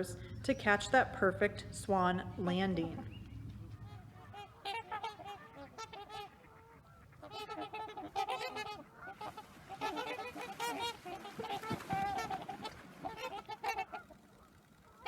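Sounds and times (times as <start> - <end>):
waterfowl honking: 0.0 - 15.0.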